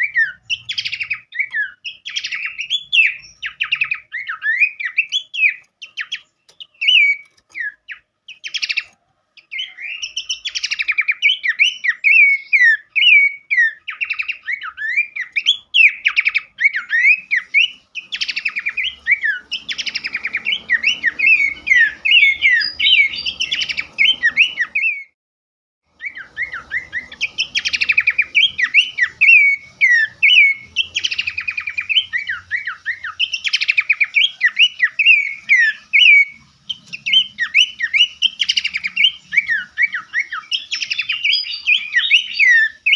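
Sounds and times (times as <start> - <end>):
songbirds chirping and trilling: 0.0 - 25.2, 25.9 - 42.9.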